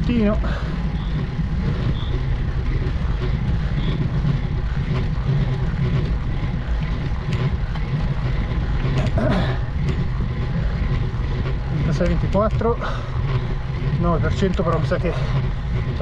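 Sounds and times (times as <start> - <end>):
wind and road noise rumble: 0.0 - 16.0.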